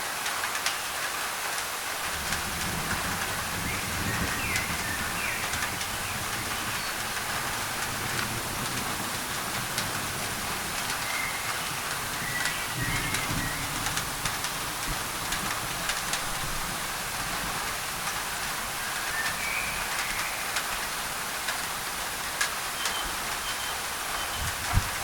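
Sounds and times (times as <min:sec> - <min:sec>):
rain on a tin roof: 0:00.0 - 0:25.0.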